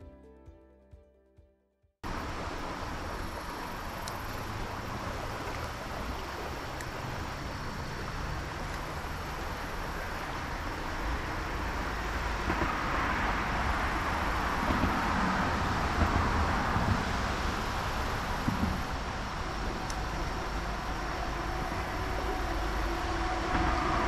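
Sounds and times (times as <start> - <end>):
creek water rushing: 2.0 - 24.0
wind rumble on microphone: 2.1 - 24.0.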